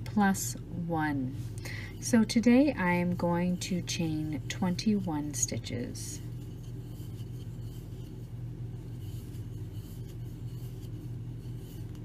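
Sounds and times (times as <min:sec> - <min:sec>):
low background hum: 0:00.0 - 0:12.0
yarn scratching through crochet hook: 0:02.0 - 0:12.0.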